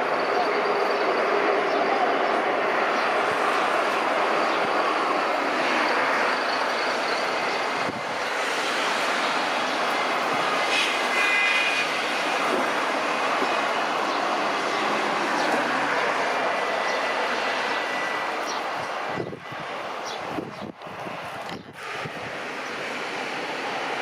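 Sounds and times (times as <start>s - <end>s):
jet engine rushing: 0.0s - 24.0s.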